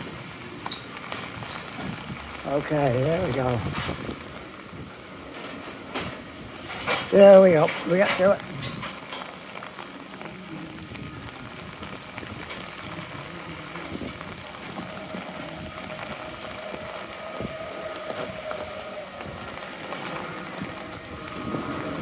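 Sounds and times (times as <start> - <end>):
rain on umbrella and pavement: 0.0 - 22.0.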